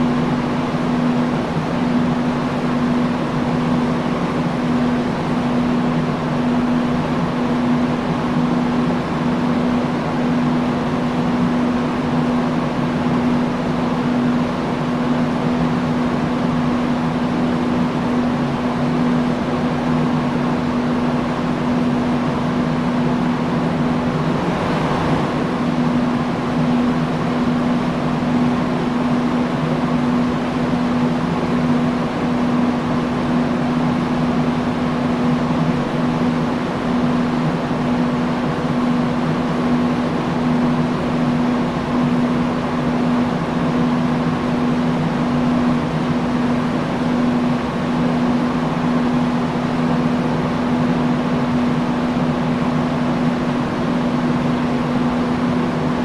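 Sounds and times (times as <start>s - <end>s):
industrial fan running: 0.0s - 56.0s.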